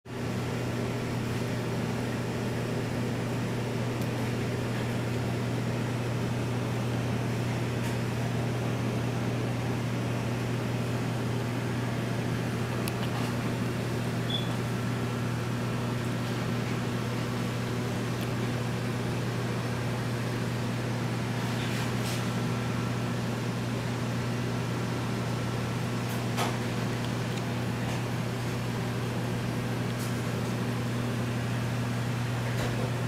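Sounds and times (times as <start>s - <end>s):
aquarium equipment humming: 0.1s - 33.0s.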